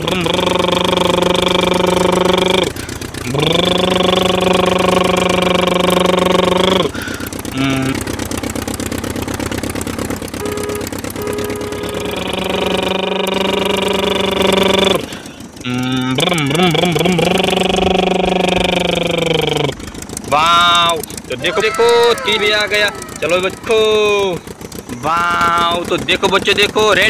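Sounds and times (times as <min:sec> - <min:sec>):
man imitating car engine: 0:00.0 - 0:08.4, 0:10.2 - 0:27.0.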